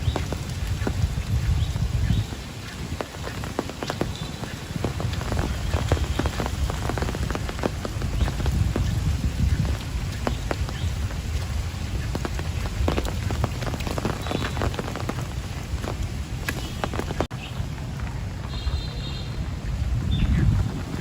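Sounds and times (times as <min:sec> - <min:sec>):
heavy rain hissing: 0:00.0 - 0:21.0
raindrops striking sharply: 0:00.0 - 0:21.0.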